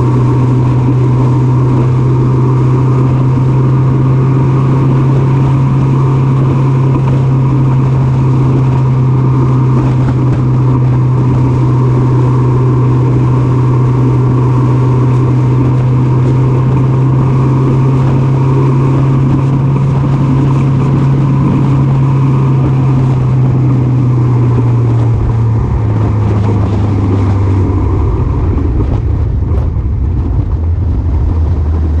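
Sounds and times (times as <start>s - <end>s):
motorcycle engine running: 0.0s - 32.0s
wind rush on microphone: 0.0s - 32.0s.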